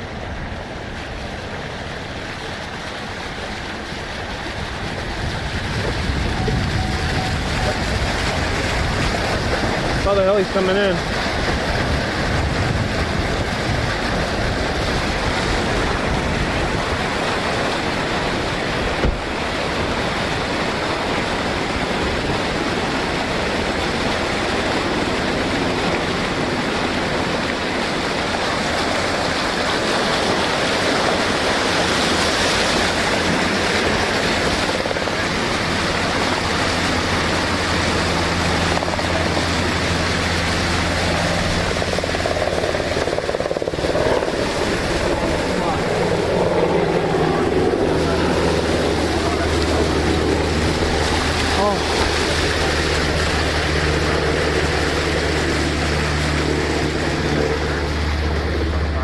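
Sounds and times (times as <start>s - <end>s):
engine drone: 0.0s - 59.0s
low hum: 0.0s - 59.0s
wind rushing: 4.5s - 27.2s, 28.0s - 59.0s.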